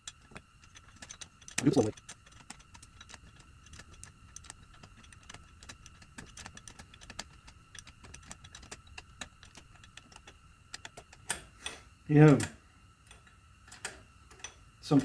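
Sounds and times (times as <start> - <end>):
wrench clicking: 0.0 - 12.5.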